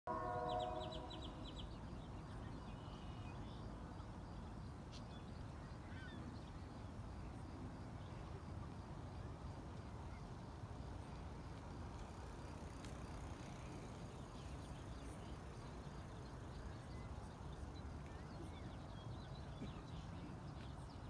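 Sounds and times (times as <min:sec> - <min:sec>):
low background noise: 0:00.1 - 0:21.0.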